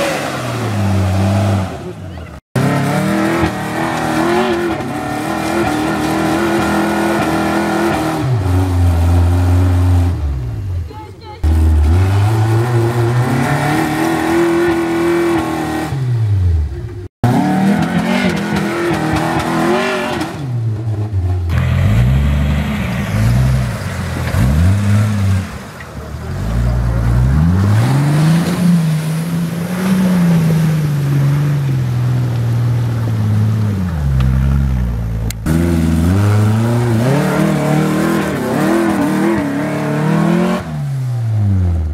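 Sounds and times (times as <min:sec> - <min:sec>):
off-road engines revving: 0:00.0 - 0:41.9.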